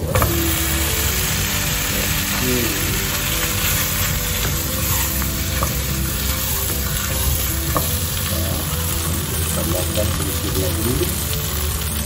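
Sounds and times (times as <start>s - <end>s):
flatbread sizzling in oil: 0.0s - 12.0s.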